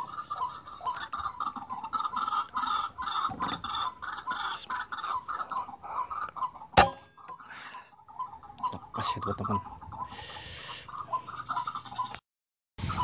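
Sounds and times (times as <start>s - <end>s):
waterhen clucking calls: 0.0s - 12.2s.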